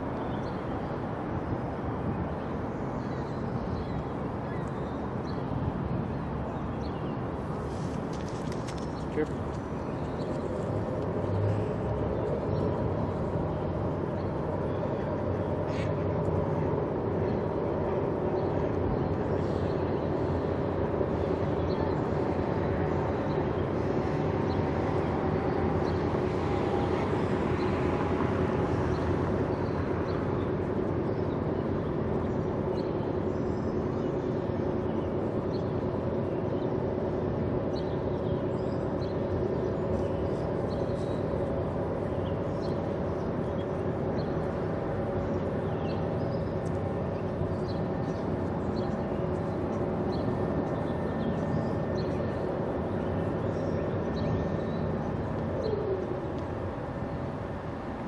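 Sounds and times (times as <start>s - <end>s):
outdoor background noise: 0.0s - 58.0s
steady mechanical hum: 0.0s - 58.0s.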